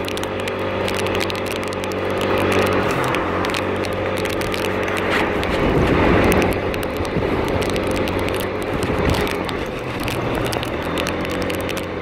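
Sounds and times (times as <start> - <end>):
scooter engine running: 0.0 - 12.0
wind rumble on microphone: 0.0 - 12.0.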